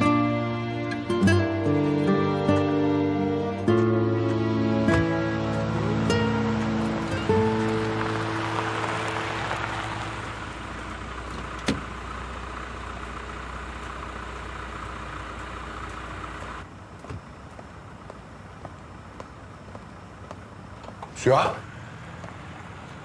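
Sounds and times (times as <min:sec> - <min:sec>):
vehicle running: 0:00.0 - 0:23.0.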